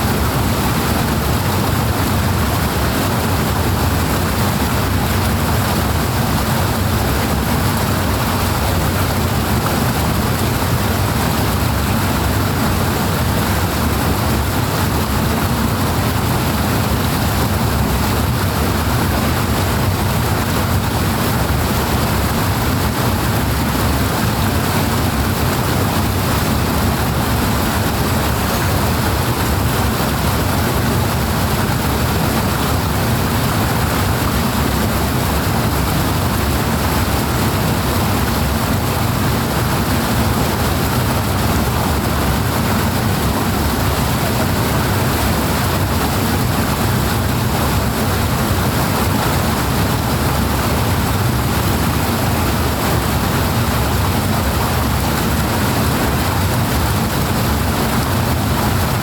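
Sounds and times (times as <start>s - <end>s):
powerful water rushing: 0.0s - 59.0s.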